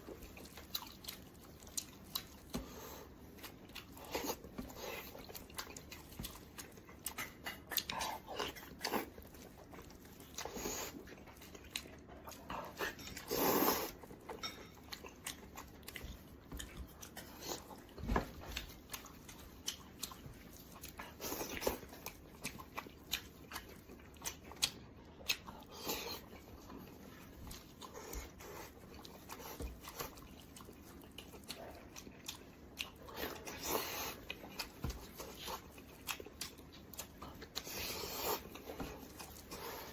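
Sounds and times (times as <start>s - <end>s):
person chewing meat: 0.0s - 39.9s.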